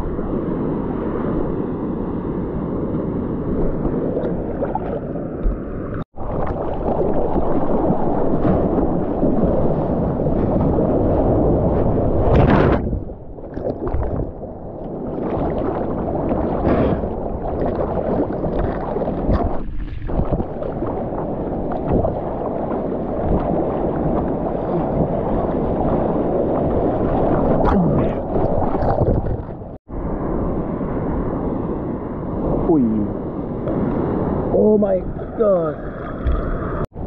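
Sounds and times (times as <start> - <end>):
sea water rushing and splashing: 0.0 - 37.0.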